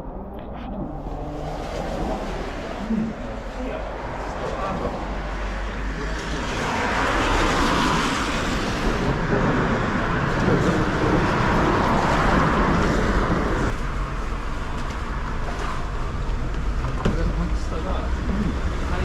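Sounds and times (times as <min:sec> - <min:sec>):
passing vehicle: 0:00.2 - 0:19.0.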